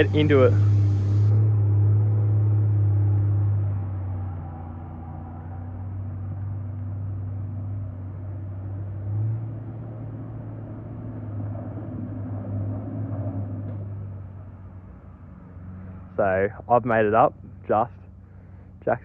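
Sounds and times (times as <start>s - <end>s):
vehicle engine droning under load: 0.0s - 19.0s.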